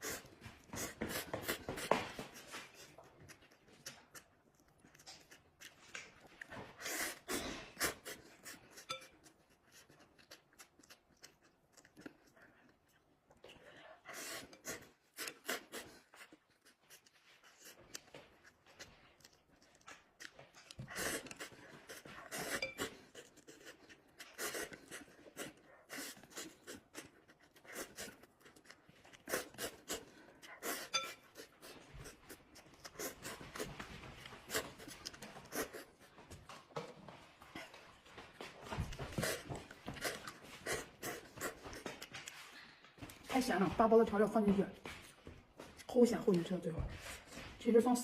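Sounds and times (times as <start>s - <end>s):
chewing and lip-smacking: 0.0s - 43.6s.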